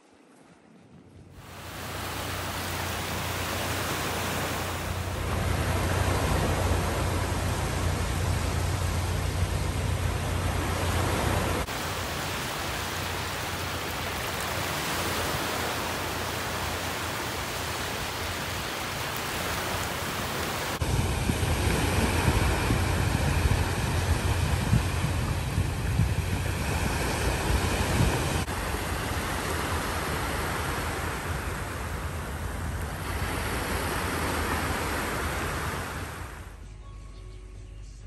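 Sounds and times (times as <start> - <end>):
wind rumbling on microphone: 0.4 - 36.6
small waves washing on beach: 1.3 - 36.5.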